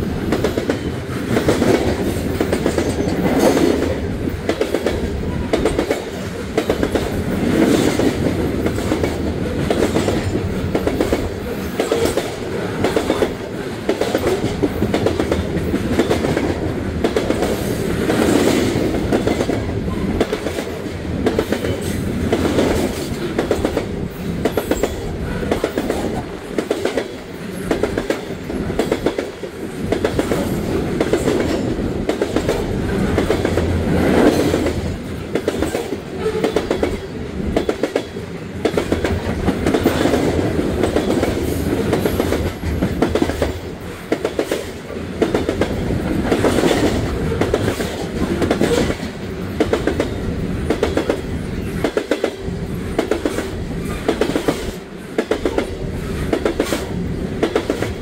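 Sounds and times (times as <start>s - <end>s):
train wheels clicking over rail joints: 0.1s - 58.0s.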